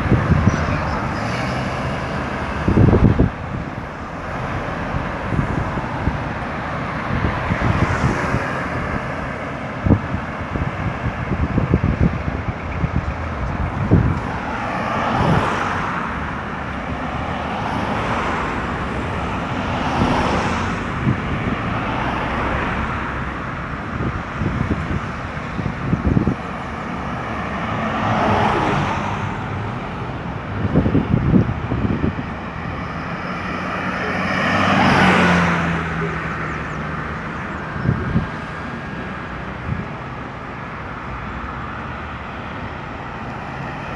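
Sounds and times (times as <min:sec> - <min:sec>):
vehicles passing on highway: 0:00.0 - 0:43.9.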